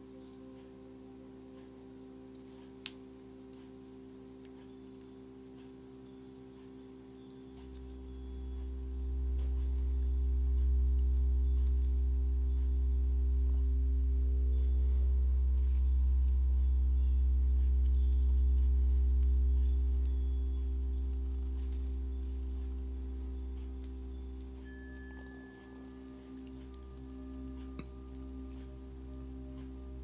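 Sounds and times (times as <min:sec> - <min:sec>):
deep ambient drone: 0:00.0 - 0:30.0.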